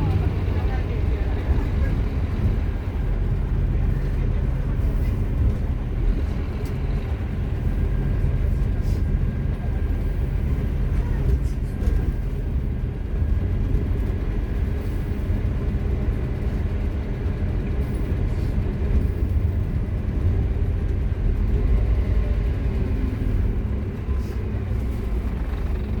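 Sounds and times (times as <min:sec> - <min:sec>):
diesel bus engine rumbling: 0:00.0 - 0:26.0.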